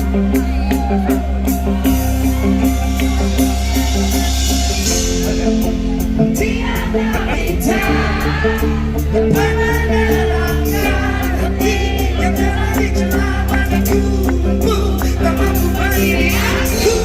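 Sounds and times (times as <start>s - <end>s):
live band music: 0.0s - 17.0s
person singing: 2.6s - 17.0s.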